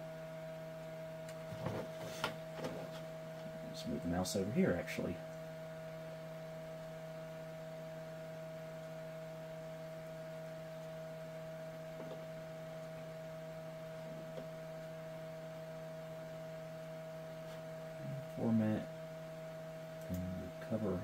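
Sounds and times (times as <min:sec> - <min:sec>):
desktop computer fan hum: 0:00.0 - 0:21.0.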